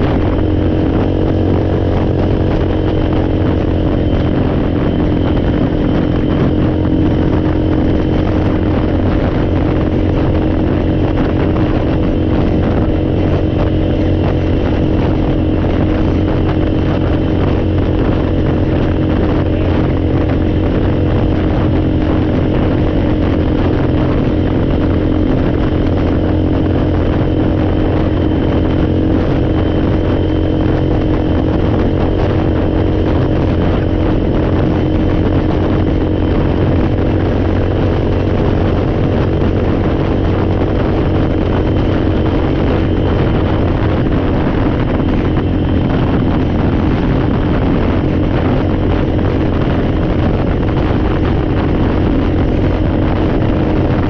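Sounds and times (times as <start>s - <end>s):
atv engine running steadily: 0.0s - 54.0s.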